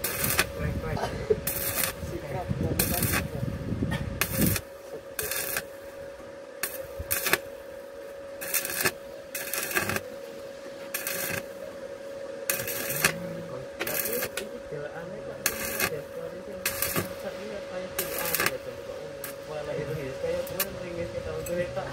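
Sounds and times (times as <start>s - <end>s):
arc welding crackling: 0.0s - 21.9s
steady hum: 0.0s - 21.9s.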